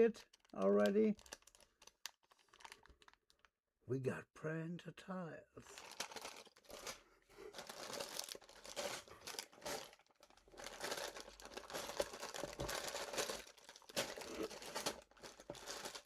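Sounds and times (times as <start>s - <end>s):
plastic bags crinkling: 0.0s - 3.5s, 5.7s - 16.0s.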